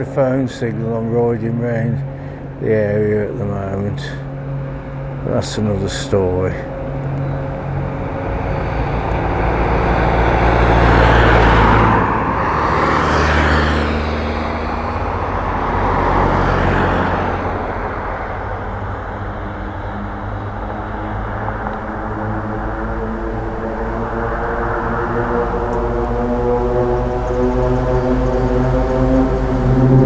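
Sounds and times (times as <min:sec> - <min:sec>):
vehicles passing close by: 0:00.0 - 0:30.0.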